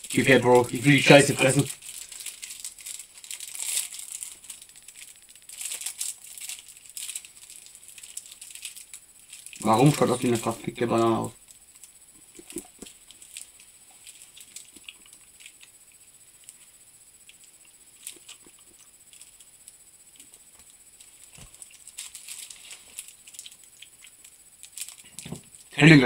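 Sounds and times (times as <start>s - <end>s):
sweet wrapper crinkling: 0.0s - 25.8s.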